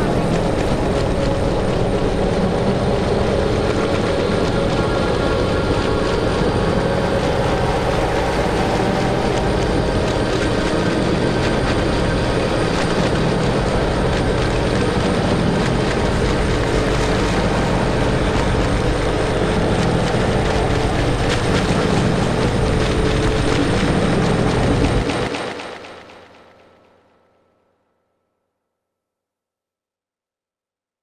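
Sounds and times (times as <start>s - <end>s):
low drone: 0.0s - 27.1s.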